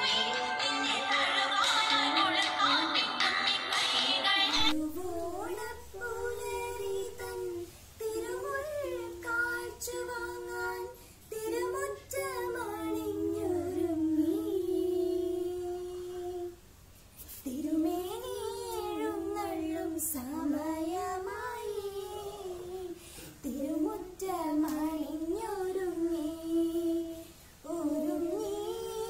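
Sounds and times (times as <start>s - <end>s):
child singing: 0.0s - 16.6s, 17.5s - 29.0s.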